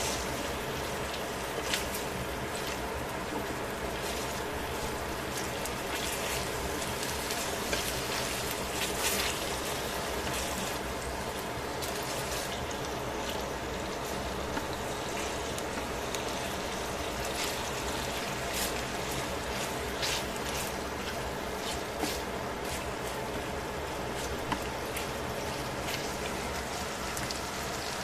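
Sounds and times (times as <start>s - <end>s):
chicken sizzling in oil: 0.0s - 28.0s
crackles and tong clicks: 0.0s - 28.0s.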